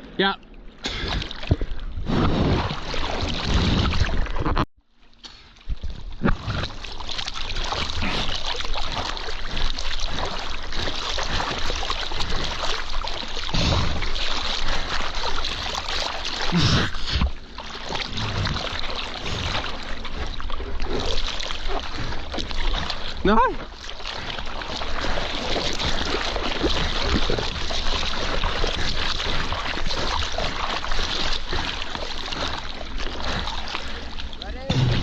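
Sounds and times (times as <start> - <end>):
rushing water: 5.4 - 35.0.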